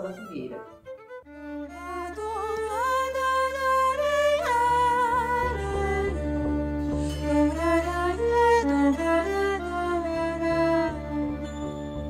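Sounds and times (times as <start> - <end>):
bowed fiddle melody: 0.0 - 12.0.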